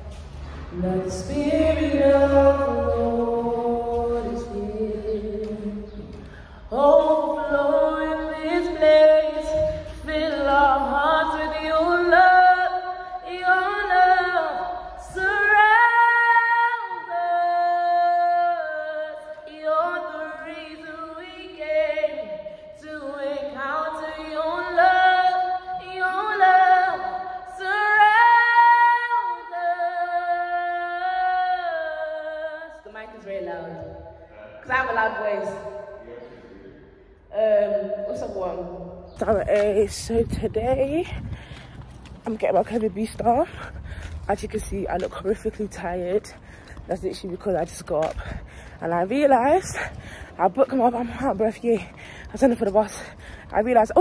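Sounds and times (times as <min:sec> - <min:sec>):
woman singing unaccompanied: 0:00.7 - 0:33.9, 0:37.3 - 0:41.3, 0:42.2 - 0:54.0.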